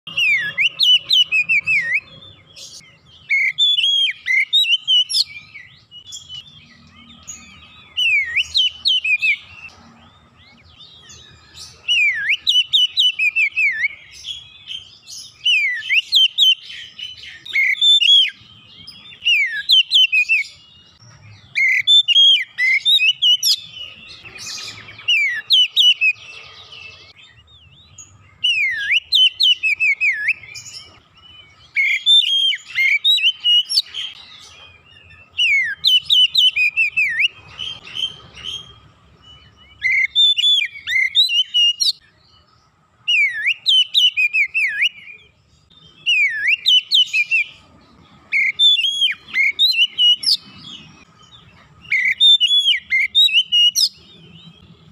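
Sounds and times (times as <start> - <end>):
songbird singing rapid whistles: 0.1 - 54.9.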